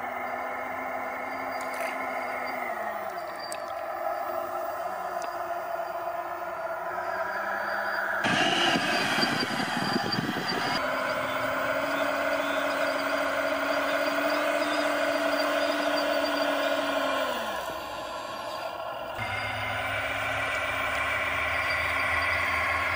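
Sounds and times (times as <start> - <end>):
model loader drive whining: 0.0 - 22.9.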